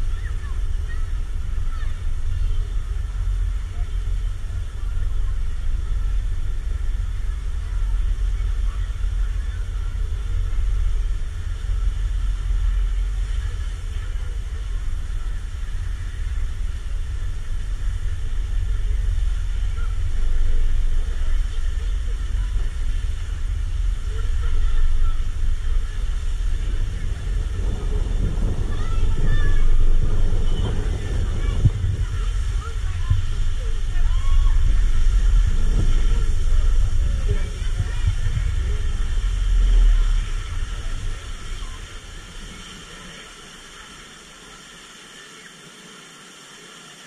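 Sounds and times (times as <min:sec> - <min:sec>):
wind buffeting microphone: 0:00.0 - 0:44.7
faint distant voices: 0:00.0 - 0:47.0.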